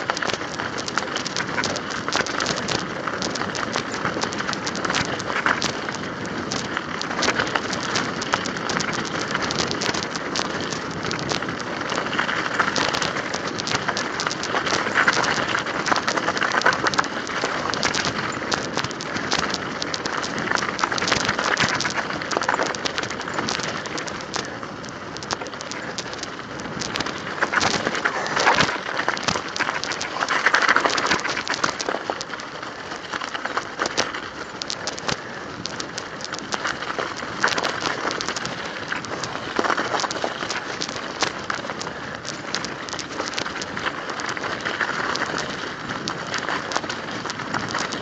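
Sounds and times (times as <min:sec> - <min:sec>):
bike tyres crunching on icy snow: 0:00.0 - 0:48.0.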